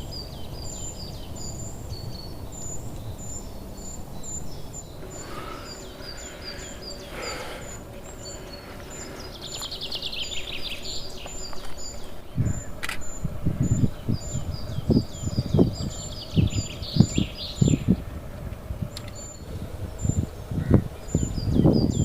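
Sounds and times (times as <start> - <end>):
wild birds calling: 0.0 - 22.0.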